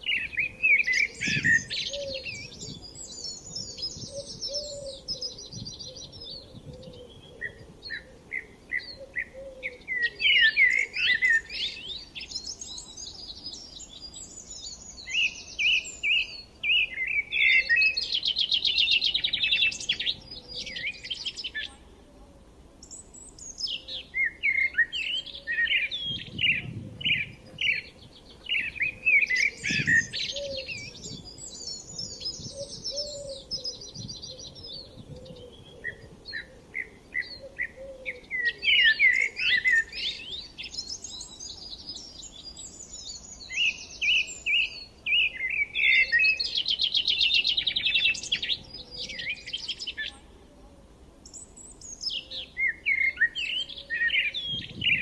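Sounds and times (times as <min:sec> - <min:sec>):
birds chirping and trilling: 0:00.0 - 0:21.8, 0:22.8 - 0:50.2, 0:51.2 - 0:55.0.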